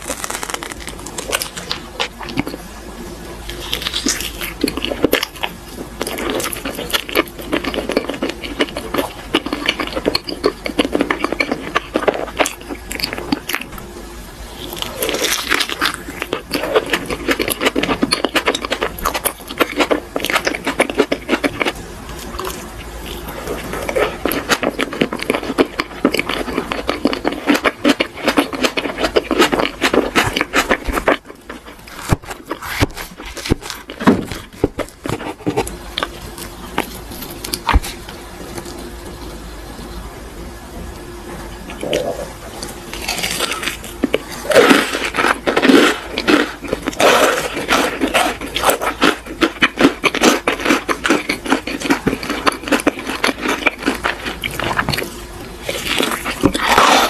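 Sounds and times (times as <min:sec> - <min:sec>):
wet chewing and smacking: 0:03.5 - 0:13.9, 0:14.6 - 0:39.2, 0:41.6 - 0:57.0.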